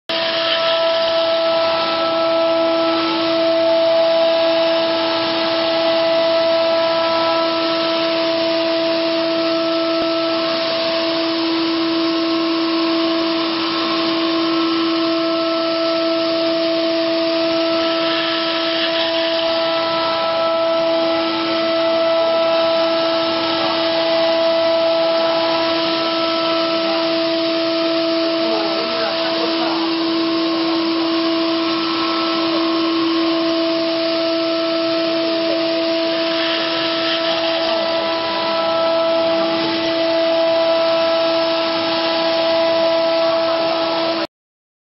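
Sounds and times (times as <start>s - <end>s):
hiss of cutting wood: 0.1s - 44.3s
milling spindle whine: 0.1s - 44.3s.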